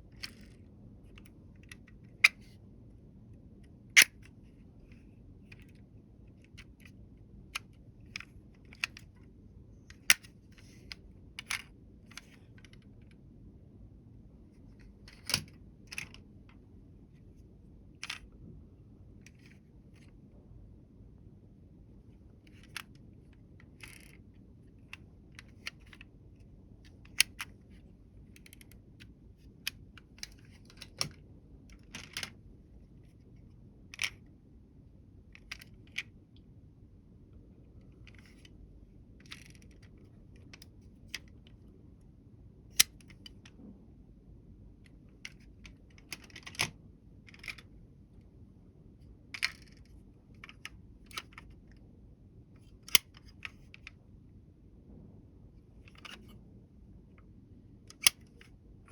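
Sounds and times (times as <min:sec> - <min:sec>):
low room hum: 0:00.0 - 0:58.9.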